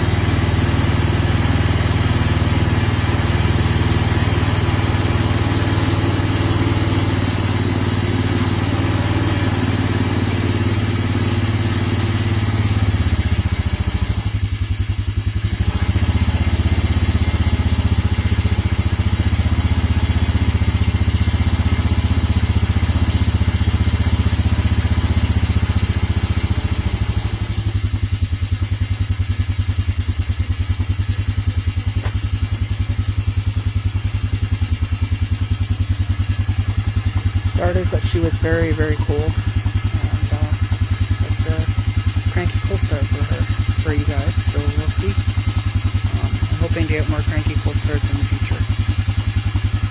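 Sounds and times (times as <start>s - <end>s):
vehicle engine idling: 0.0s - 49.9s.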